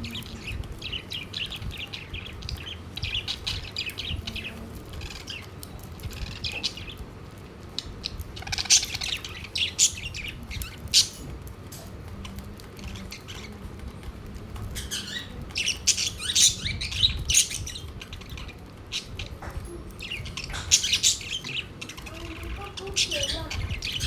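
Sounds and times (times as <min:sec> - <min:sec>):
budgerigars chirping and squawking: 0:00.0 - 0:11.5, 0:12.2 - 0:13.7, 0:14.6 - 0:24.0.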